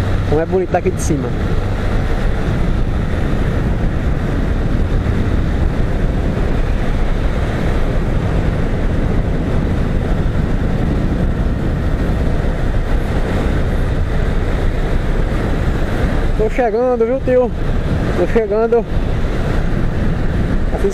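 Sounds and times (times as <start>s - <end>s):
motorcycle engine running: 0.0s - 20.9s
wind rushing on microphone: 0.0s - 20.9s.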